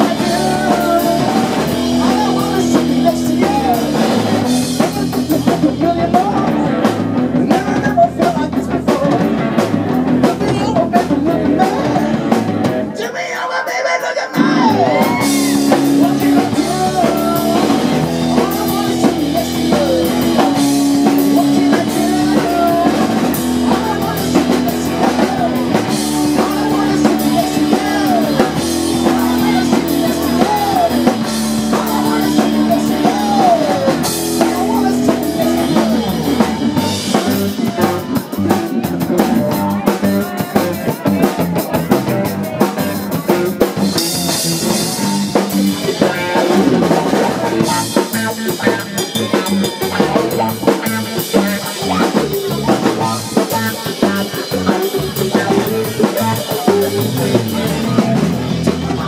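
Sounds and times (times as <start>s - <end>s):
rock music with drums and guitars: 0.0s - 59.0s.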